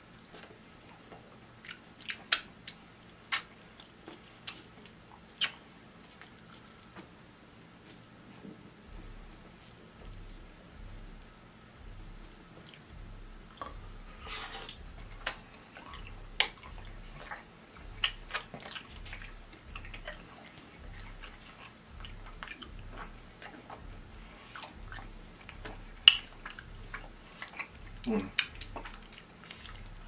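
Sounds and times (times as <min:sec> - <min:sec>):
person chewing and smacking: 0:00.0 - 0:07.1, 0:08.9 - 0:30.0.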